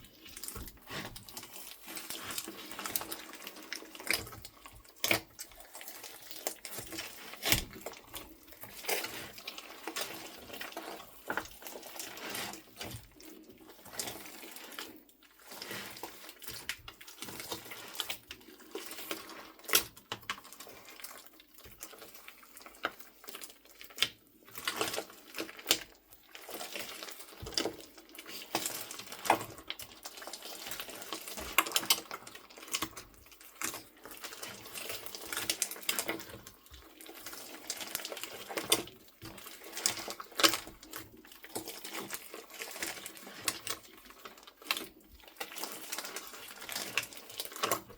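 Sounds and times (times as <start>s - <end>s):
sticky clicks and crackles of slime: 0.3s - 15.6s, 16.2s - 47.9s.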